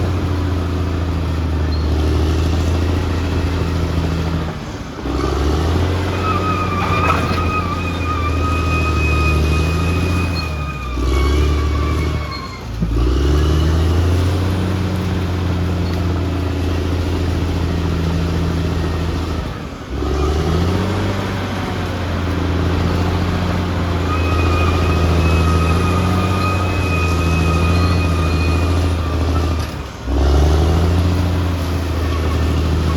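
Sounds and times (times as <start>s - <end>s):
bulldozer diesel engine under load: 0.0s - 32.9s.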